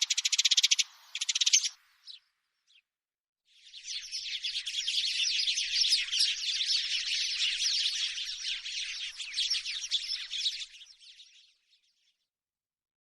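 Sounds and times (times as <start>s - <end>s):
sparrow chirping: 0.0s - 2.9s, 3.6s - 11.6s.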